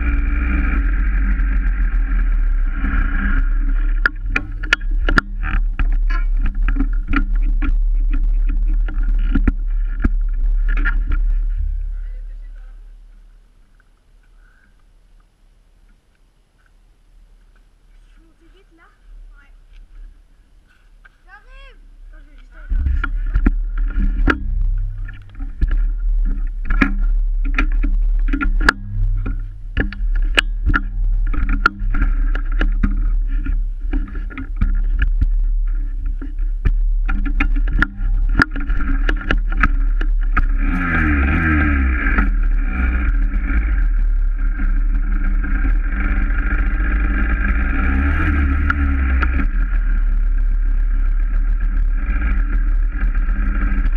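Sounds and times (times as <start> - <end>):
knocks and rattles: 0.0 - 13.2, 22.7 - 53.9
two-stroke engine idling: 0.0 - 13.5, 21.3 - 53.9.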